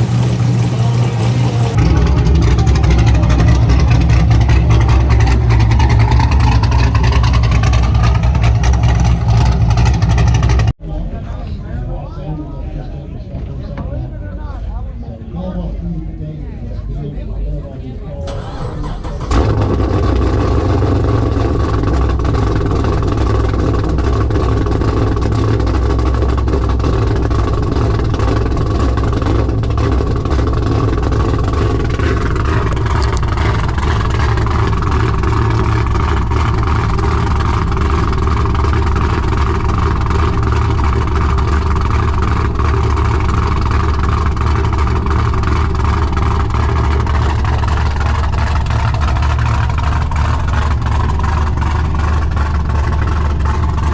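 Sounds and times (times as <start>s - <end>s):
car engine running: 0.0s - 10.8s, 17.2s - 53.9s.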